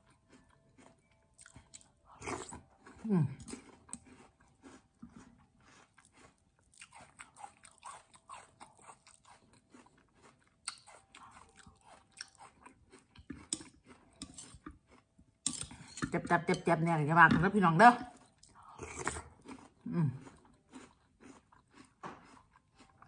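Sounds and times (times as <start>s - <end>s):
chewing and crunching: 0.0s - 23.0s.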